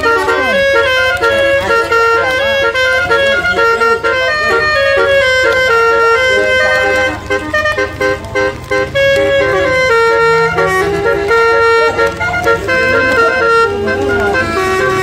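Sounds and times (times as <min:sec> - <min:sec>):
bus engine rumble: 0:00.0 - 0:15.0
multi-tone air horn melody: 0:00.0 - 0:15.0.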